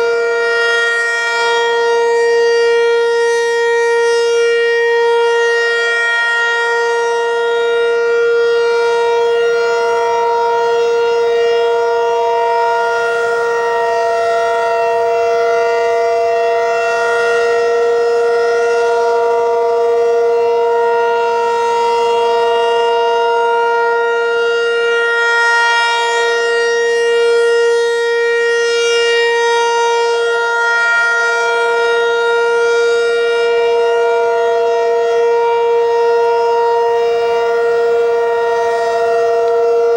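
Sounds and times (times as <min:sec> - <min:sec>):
dual-tone siren: 0:00.0 - 0:39.9.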